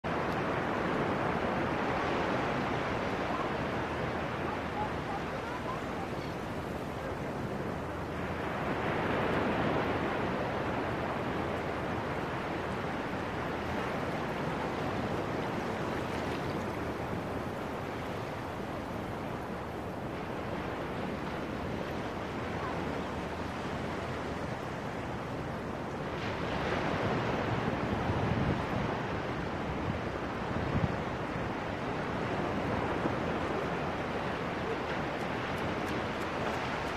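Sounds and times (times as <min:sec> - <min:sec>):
ocean surf washing on sand: 0:00.1 - 0:36.9.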